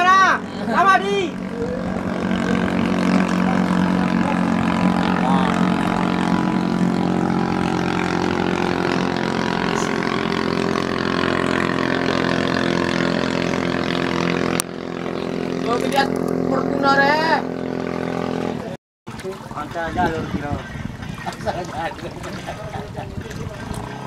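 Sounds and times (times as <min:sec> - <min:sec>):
racing boat engines droning: 0:00.0 - 0:24.0.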